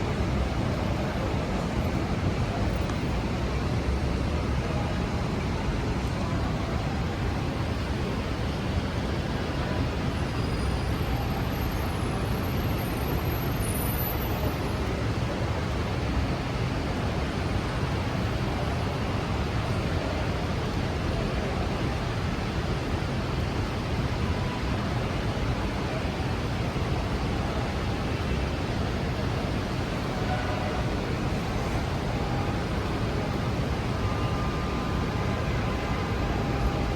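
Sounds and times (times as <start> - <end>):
traffic: 0.0 - 36.9.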